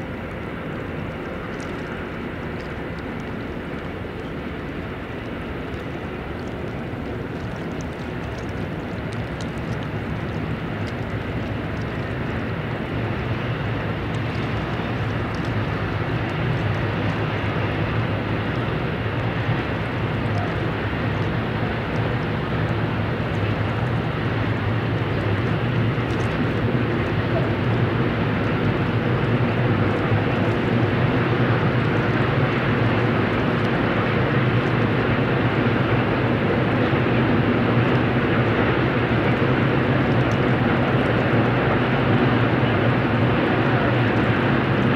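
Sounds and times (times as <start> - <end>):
distant freight train rumble: 0.0 - 44.9
ship diesel engine hum: 0.0 - 44.9.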